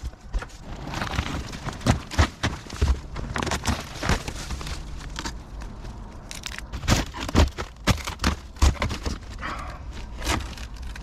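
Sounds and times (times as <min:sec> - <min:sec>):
debris knocking and scraping: 0:00.0 - 0:11.0.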